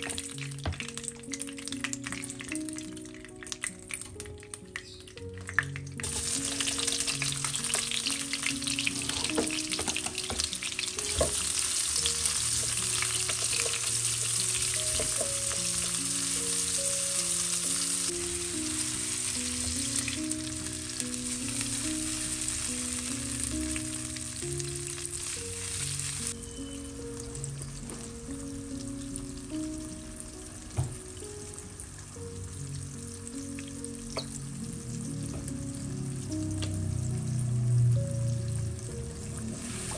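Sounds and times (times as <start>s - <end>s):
onion sizzling in hot oil: 0.0s - 39.9s.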